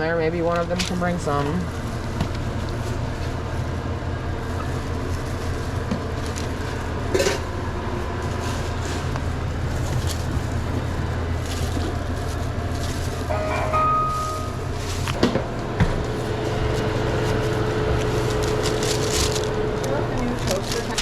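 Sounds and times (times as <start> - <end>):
kitchen equipment hum: 0.0 - 21.0.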